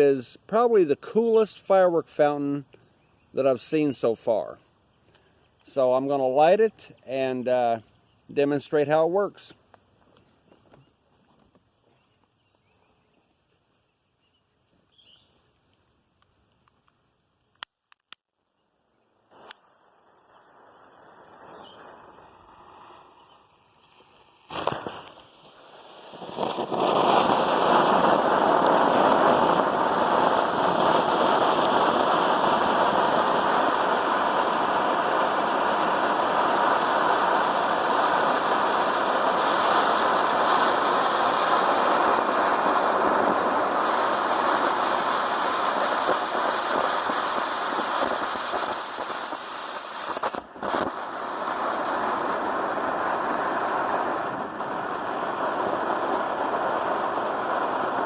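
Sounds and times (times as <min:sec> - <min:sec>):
firework fountain hissing: 0:00.0 - 0:02.8, 0:03.4 - 0:09.7, 0:19.2 - 0:58.0.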